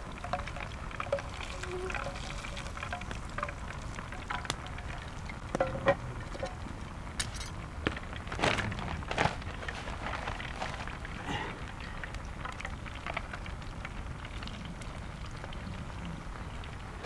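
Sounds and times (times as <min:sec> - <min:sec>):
fish frying in hot oil: 0:00.0 - 0:17.0
oil crackling and popping: 0:00.0 - 0:17.0.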